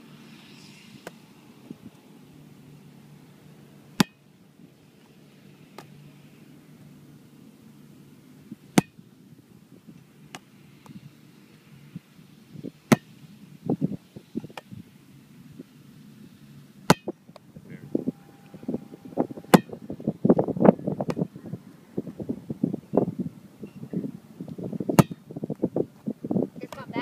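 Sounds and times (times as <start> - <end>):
low rumbling noise: 0.0 - 27.0.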